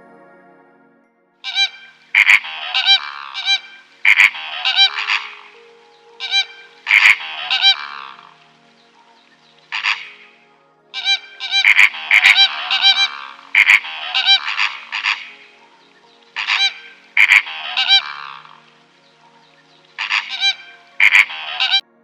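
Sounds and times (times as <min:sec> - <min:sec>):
animal calling loudly: 0:01.4 - 0:08.5, 0:09.7 - 0:10.4, 0:11.0 - 0:21.8.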